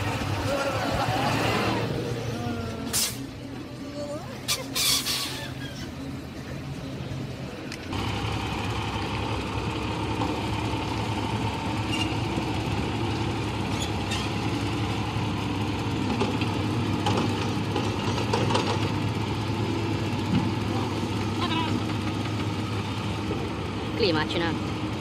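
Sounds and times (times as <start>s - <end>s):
bulldozer diesel engine idling: 0.0s - 25.0s.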